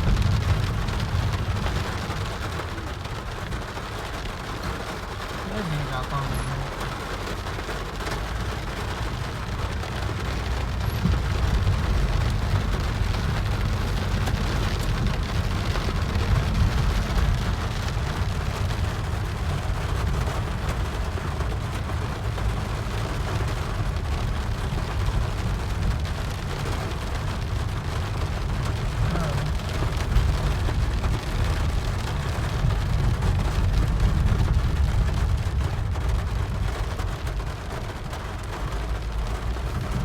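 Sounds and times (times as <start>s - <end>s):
continuous low rumble: 0.0s - 40.0s
heavy rain falling: 0.0s - 40.0s.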